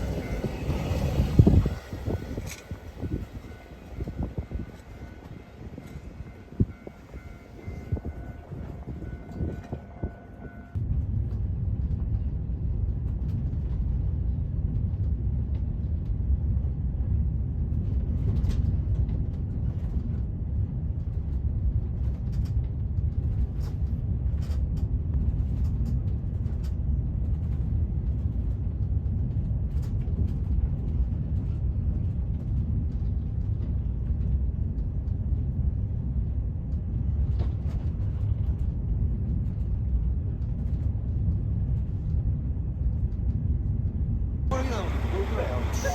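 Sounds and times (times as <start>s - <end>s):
vehicle engine low rumble: 0.0s - 45.9s.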